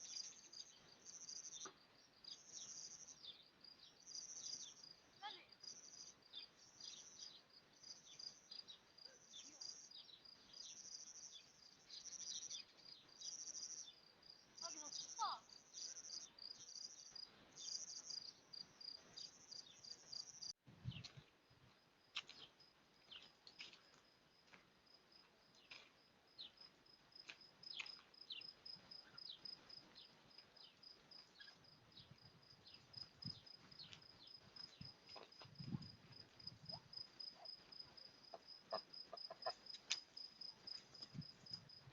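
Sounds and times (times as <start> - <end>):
crickets chirping: 0.0 - 20.6, 21.5 - 23.1, 23.8 - 41.9.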